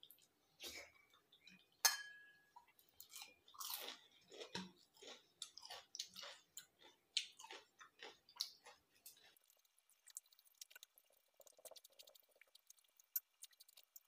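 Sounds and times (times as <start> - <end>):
person chewing and crunching food: 2.5 - 14.0.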